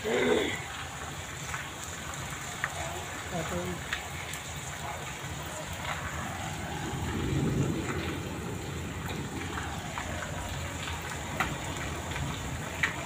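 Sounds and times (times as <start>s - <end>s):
heavy rain pouring: 0.0s - 13.0s
sharp raindrop hits: 0.0s - 13.0s.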